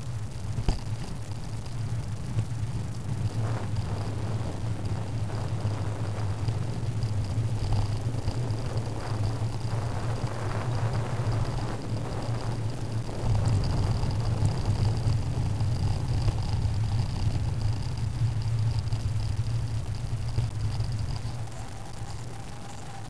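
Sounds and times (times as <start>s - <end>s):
high-pitched whine: 0.0s - 23.0s
wind rumbling over microphone: 0.0s - 23.0s.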